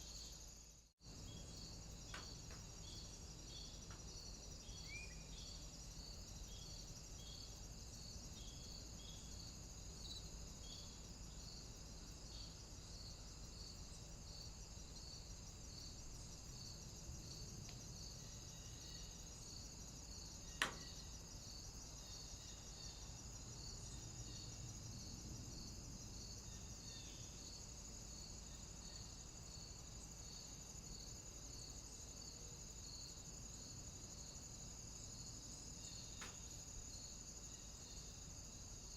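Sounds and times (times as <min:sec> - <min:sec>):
crickets chirping: 0:00.0 - 0:38.9
high insect drone: 0:00.0 - 0:38.9.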